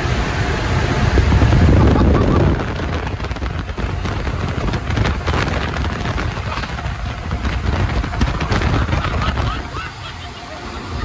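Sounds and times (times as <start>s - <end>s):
car wash machinery rushing: 0.0s - 11.0s.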